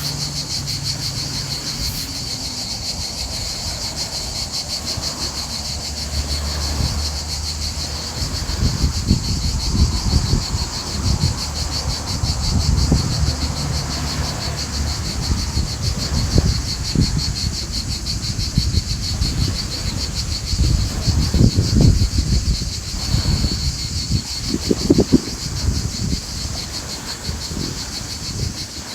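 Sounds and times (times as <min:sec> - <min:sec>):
insects chirring: 0:00.0 - 0:28.9
low gusty rumble: 0:00.0 - 0:28.9.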